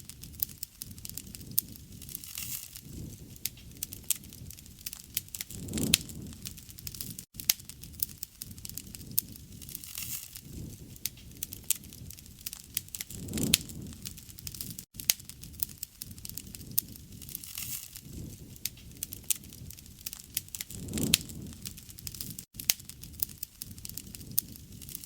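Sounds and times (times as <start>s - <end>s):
campfire crackling and popping: 0.0s - 25.0s
flame rumbling: 0.0s - 25.0s.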